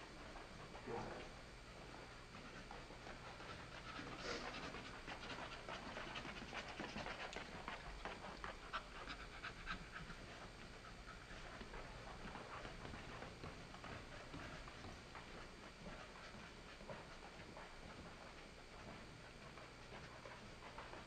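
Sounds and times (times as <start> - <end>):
dog panting quickly: 0.0 - 21.0.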